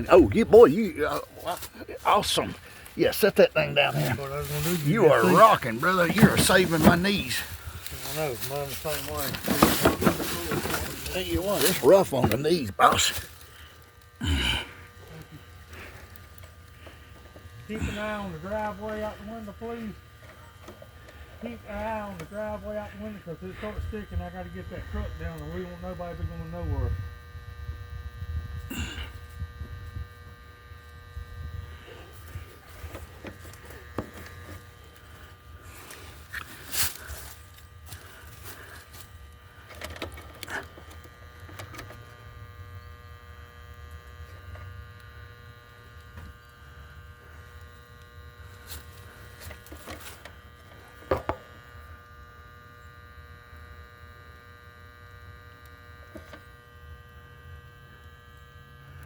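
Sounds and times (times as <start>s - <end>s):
electrical hum with steady tones: 0.0s - 59.0s.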